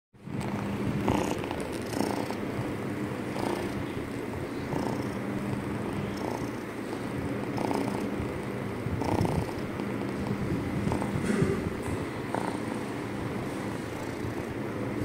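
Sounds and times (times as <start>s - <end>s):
kitten purring loudly: 0.2s - 15.0s.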